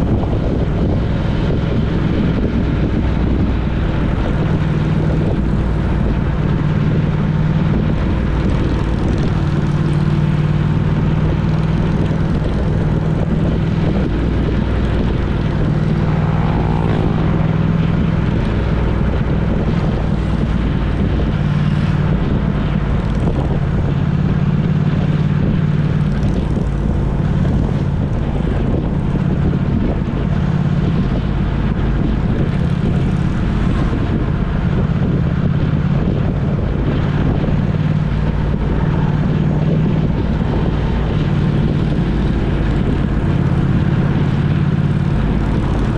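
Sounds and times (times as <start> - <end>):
road noise: 0.0 - 45.9
vehicle engine running steadily: 0.0 - 45.9
wind noise: 0.0 - 45.9.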